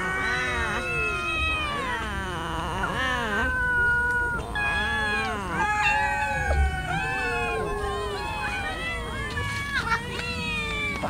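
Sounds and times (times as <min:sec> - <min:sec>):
cats meowing: 0:00.0 - 0:11.0.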